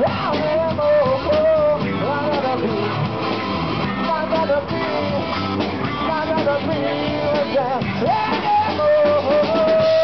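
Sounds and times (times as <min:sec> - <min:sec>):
drum kit: 0:00.0 - 0:10.0
electric guitars: 0:00.0 - 0:10.0
lead vocal singing: 0:00.0 - 0:10.0.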